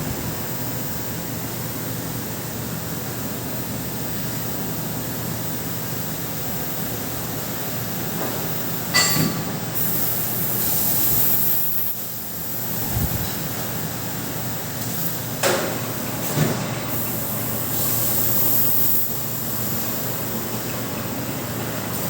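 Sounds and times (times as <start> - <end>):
laser cutter hiss: 0.3 - 22.0.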